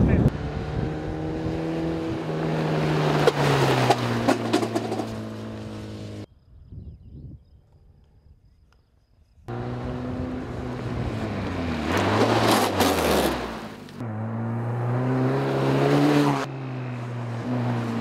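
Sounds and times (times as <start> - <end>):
buggy engine passing: 0.1 - 6.3, 9.5 - 18.0.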